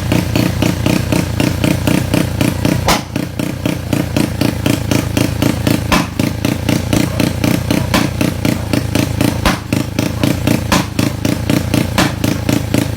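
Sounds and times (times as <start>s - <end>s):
scooter engine idling: 0.0s - 12.9s.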